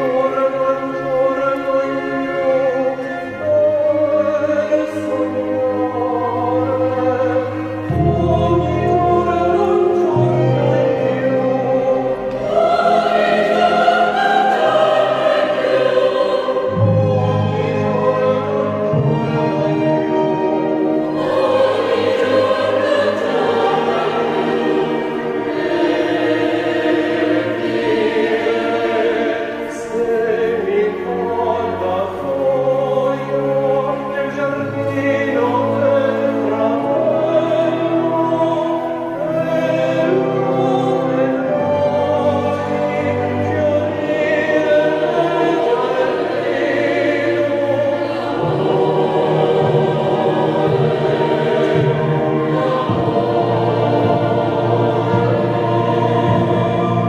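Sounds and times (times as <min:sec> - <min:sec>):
choir singing: 0:00.0 - 0:57.0
orchestra playing: 0:00.0 - 0:57.0
tenor singing opera: 0:00.0 - 0:57.0.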